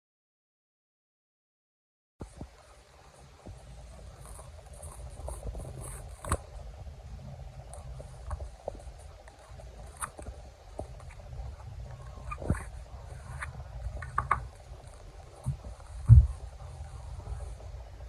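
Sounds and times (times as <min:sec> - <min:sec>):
handling noise rumble: 0:02.2 - 0:18.0.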